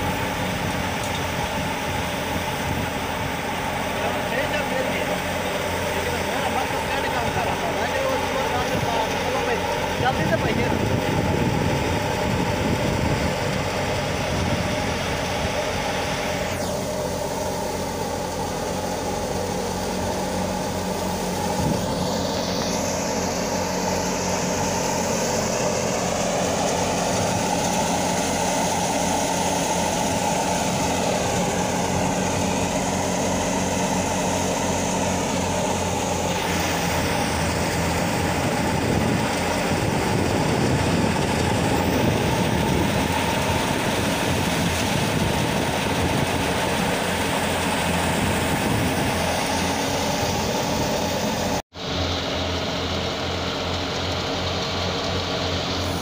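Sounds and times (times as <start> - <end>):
thresher mechanical drone: 0.0 - 56.0.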